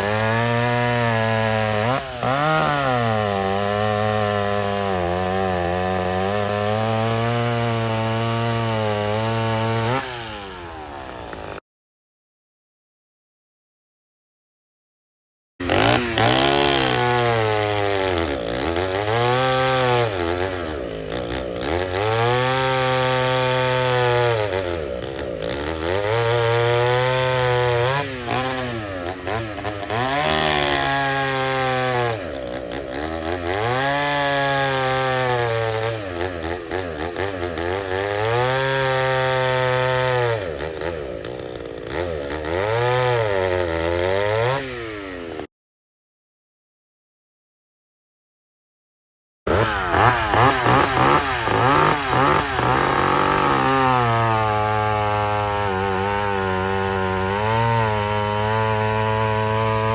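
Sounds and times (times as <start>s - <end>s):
chainsaw engine revving: 0.0s - 11.6s, 15.6s - 45.5s, 49.5s - 59.9s.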